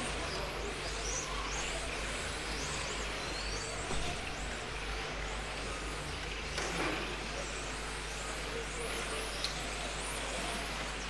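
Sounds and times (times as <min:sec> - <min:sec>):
electric rc car motors whining: 0:00.0 - 0:11.0.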